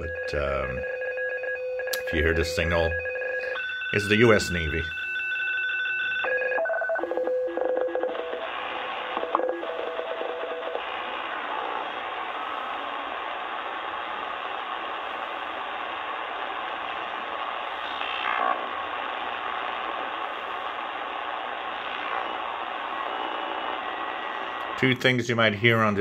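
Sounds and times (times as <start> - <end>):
radio band noise: 2.0 - 5.0, 8.1 - 26.0.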